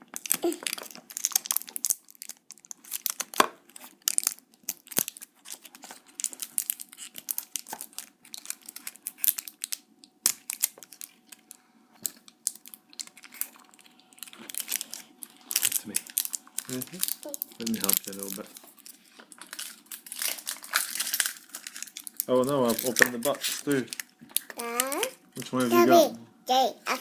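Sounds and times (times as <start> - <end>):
wrapper crinkling and tearing: 0.0 - 25.9.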